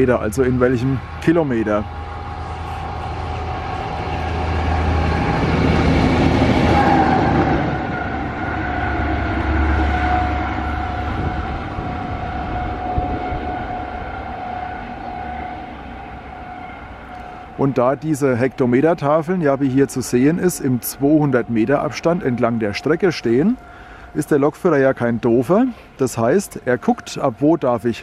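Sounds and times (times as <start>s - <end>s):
steady whine: 0.0s - 28.0s
train passing: 0.0s - 28.0s.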